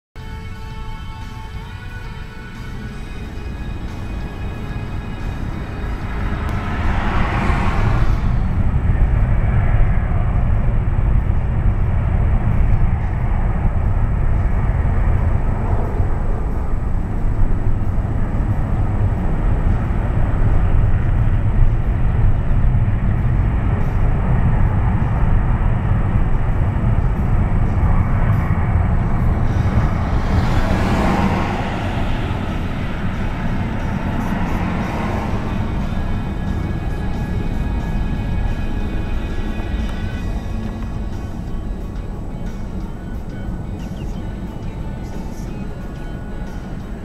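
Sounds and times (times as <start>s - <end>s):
fighter jet engines roaring: 0.2s - 47.0s
jet engine whine: 0.2s - 47.0s.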